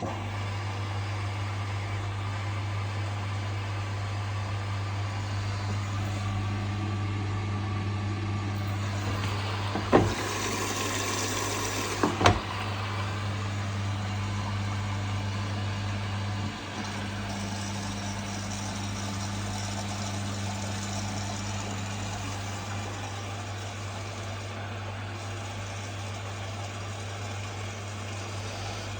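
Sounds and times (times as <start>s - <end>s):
washing machine humming: 0.0s - 28.9s.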